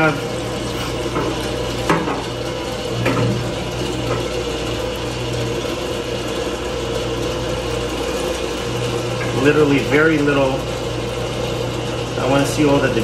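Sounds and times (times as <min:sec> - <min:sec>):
pump motor humming: 0:00.0 - 0:13.0.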